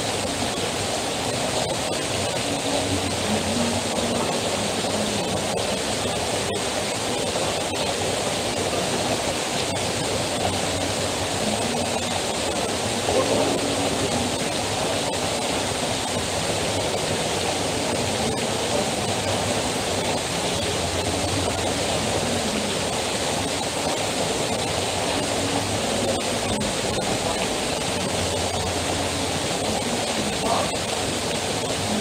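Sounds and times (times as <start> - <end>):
heavy rain streaming off roof: 0.0 - 32.0.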